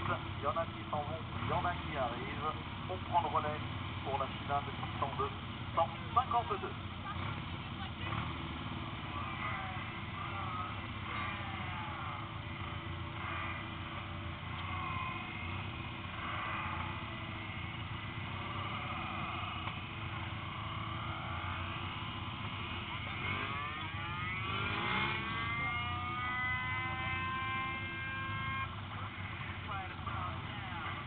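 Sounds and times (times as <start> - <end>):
engine revving: 0.0 - 31.0
engines blipping: 0.0 - 31.0
kart engine idling: 0.0 - 31.0.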